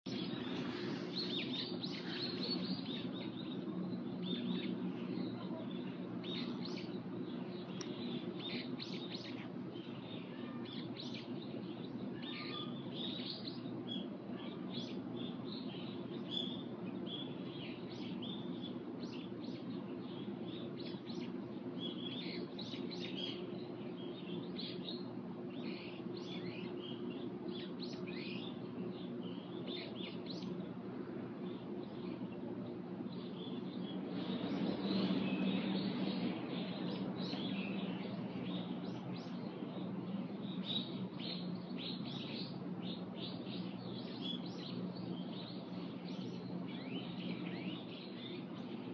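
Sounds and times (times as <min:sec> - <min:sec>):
small birds chirping: 0:00.0 - 0:48.9
steady low hum: 0:00.0 - 0:48.9.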